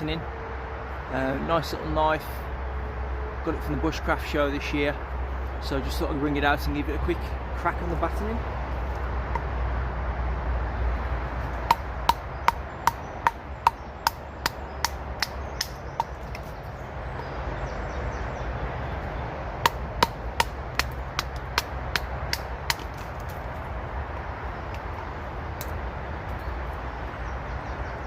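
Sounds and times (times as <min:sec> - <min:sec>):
low rumble of motorway traffic: 0:00.0 - 0:28.0.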